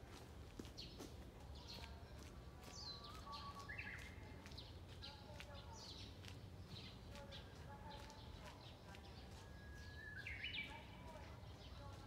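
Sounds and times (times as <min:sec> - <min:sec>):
small birds chirping faintly: 0:00.0 - 0:12.0
bush warbler song: 0:01.6 - 0:12.0.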